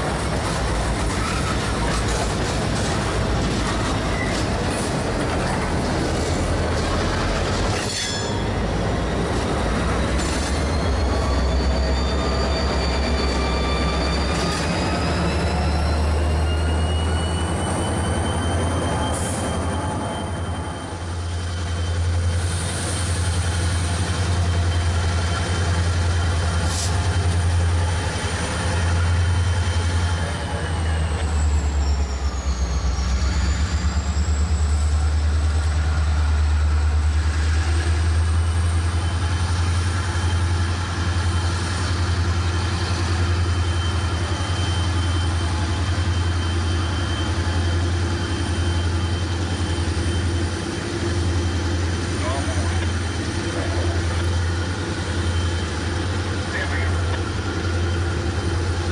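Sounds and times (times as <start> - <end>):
locomotive engine rumble: 0.0 - 58.9
train wheels squealing: 0.5 - 58.9.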